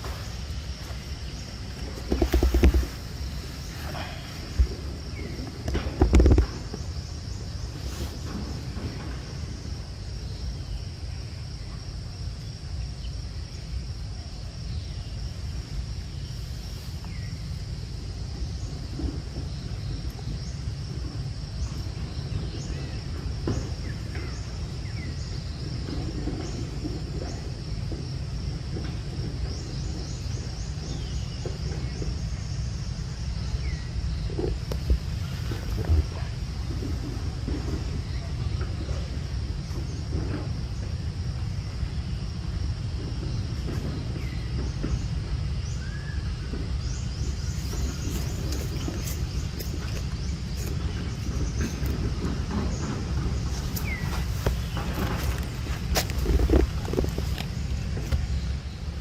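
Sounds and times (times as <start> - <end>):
constant low rumble: 0.0 - 59.0
high insect drone: 0.0 - 59.0.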